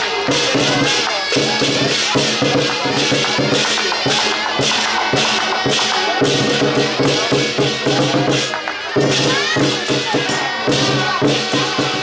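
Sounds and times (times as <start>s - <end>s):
big drum beating: 0.0s - 12.0s
cymbals clashing: 0.0s - 12.0s.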